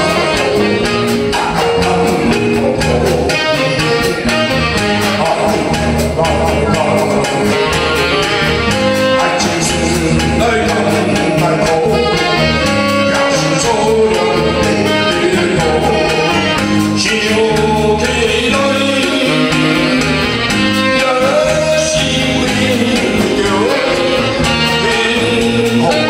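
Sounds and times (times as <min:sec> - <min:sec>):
man singing ballad into microphone: 0:00.0 - 0:08.4, 0:09.2 - 0:26.0
band with drums and keyboard: 0:00.0 - 0:26.0.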